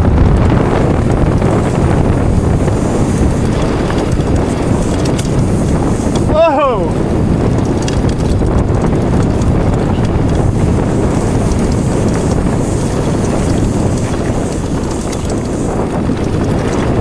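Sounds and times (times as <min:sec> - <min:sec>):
bike clicks and rattles: 0:00.0 - 0:17.0
tyres rumbling on trail: 0:00.0 - 0:17.0
wind buffeting microphone: 0:00.0 - 0:17.0.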